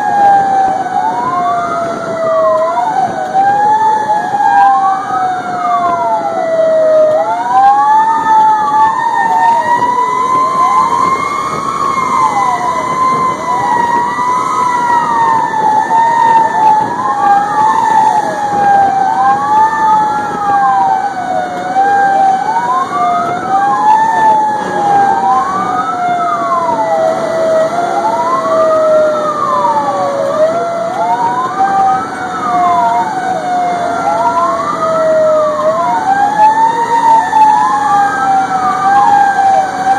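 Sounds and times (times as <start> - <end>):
fire engine sirens wailing: 0.0 - 39.9.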